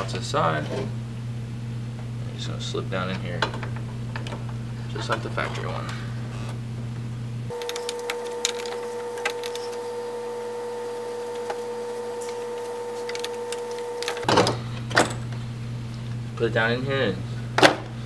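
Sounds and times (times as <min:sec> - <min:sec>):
steady high-pitched whine: 0:00.0 - 0:17.5.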